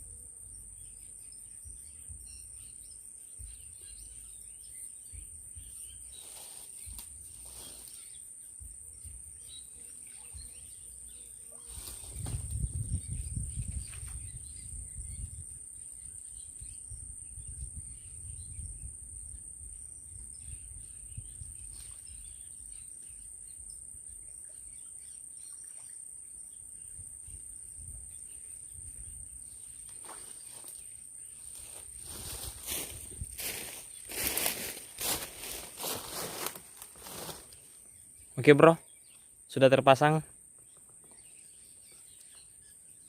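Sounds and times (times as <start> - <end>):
insects trilling: 0.0 - 43.0.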